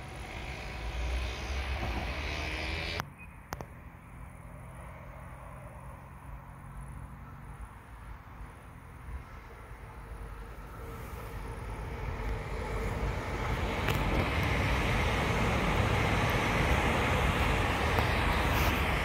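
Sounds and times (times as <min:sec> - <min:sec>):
electric trains passing rumble: 0:00.0 - 0:19.0.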